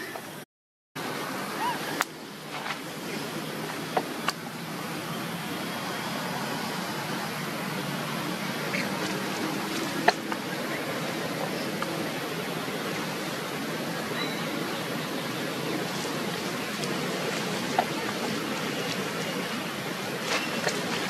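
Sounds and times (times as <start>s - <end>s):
outdoor background hiss: 1.0s - 21.0s.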